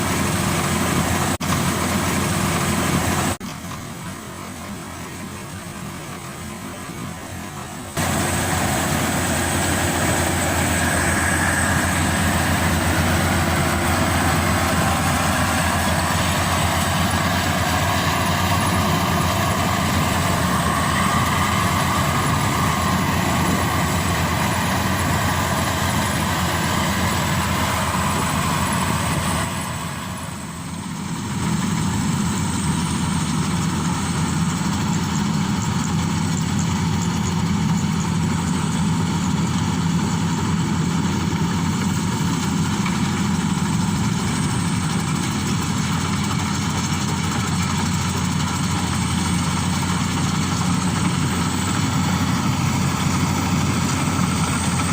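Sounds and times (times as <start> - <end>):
combine harvester engine hum: 0.0 - 54.9.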